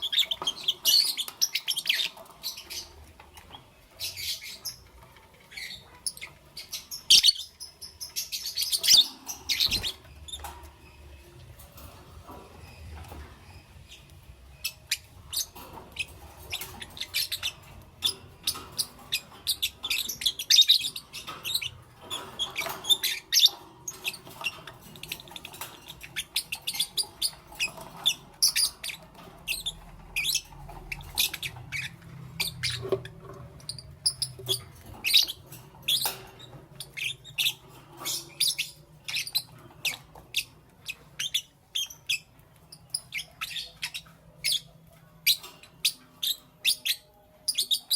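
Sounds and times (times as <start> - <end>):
lovebirds chirping: 0.0 - 47.9.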